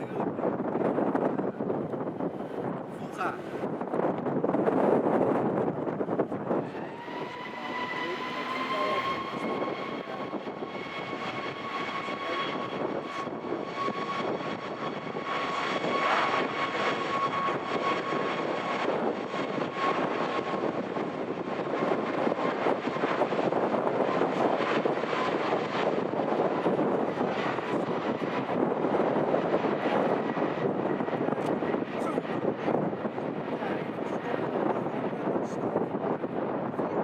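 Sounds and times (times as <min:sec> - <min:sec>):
high jet engine whine: 0:00.0 - 0:37.0.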